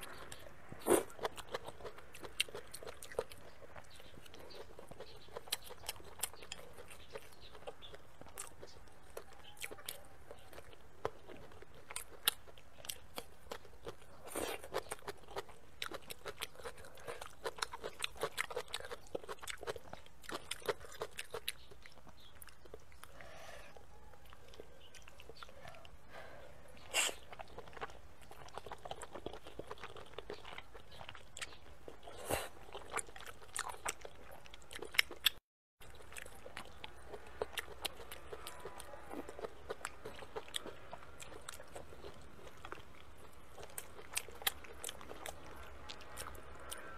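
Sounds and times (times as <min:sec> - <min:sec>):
wet chewing and crunchy bites: 0:00.0 - 0:46.9.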